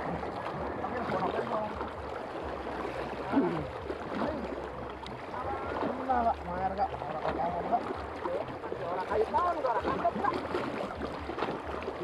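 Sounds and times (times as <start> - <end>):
waves splashing over rocks: 0.0 - 12.0.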